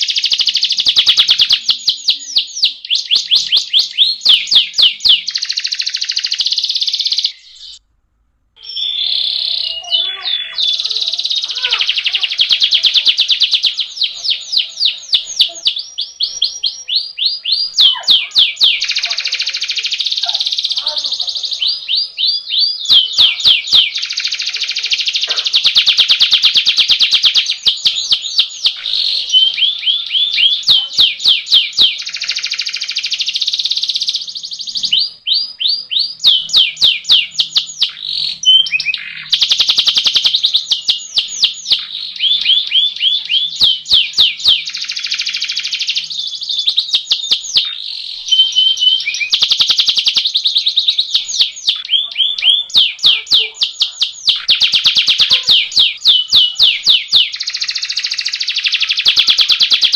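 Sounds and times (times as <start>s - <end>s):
canary singing: 0.0s - 7.9s, 8.6s - 59.9s.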